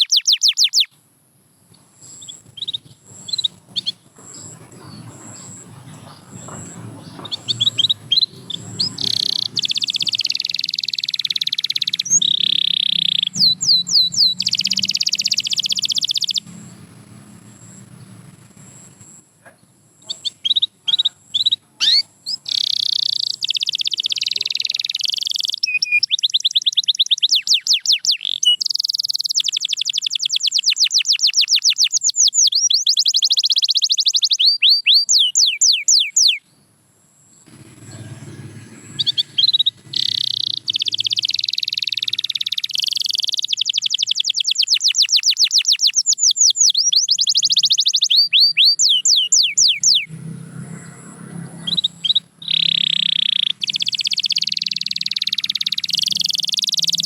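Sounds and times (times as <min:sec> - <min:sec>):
canary singing trills: 0:00.0 - 0:01.0, 0:02.0 - 0:57.0.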